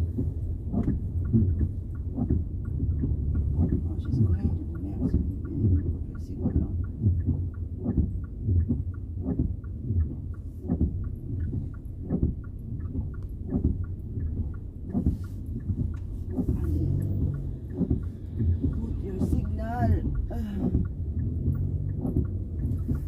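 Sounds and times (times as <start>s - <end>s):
car engine and road rumble: 0.0s - 23.0s
light ticking: 0.0s - 23.0s
regular thumping: 0.0s - 23.0s.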